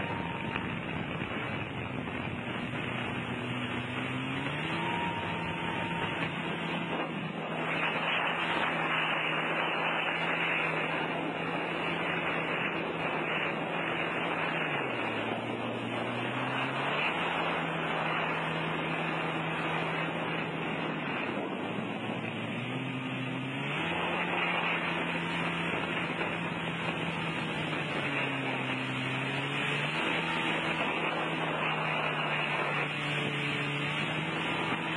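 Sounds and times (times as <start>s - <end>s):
jet ski engine running: 0.0s - 34.9s
rush of spray and wind: 0.0s - 34.9s.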